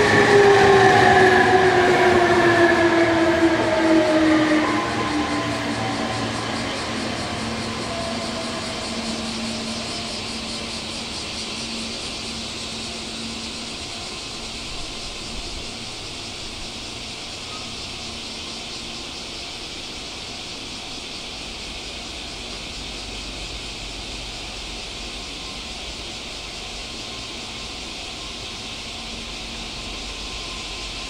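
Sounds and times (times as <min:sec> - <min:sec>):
insect chorus shrilling: 0:00.0 - 0:31.0.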